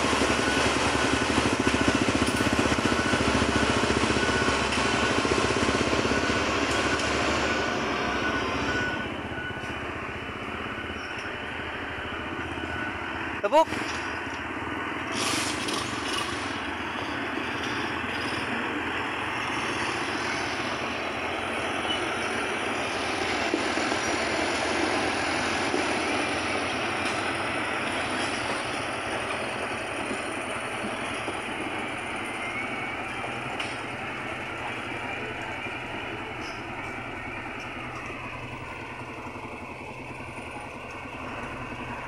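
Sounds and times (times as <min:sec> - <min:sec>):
motor grader diesel engine running: 0:00.0 - 0:42.0.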